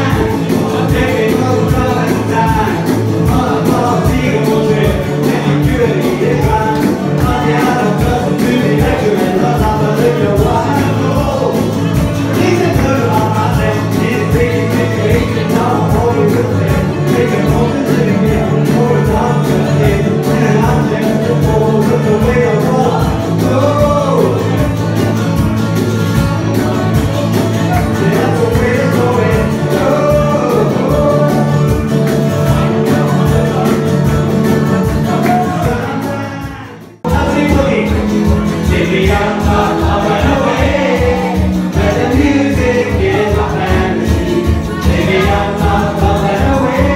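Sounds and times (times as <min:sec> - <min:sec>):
acoustic guitar strumming: 0:00.0 - 0:46.9
man singing: 0:00.0 - 0:46.9.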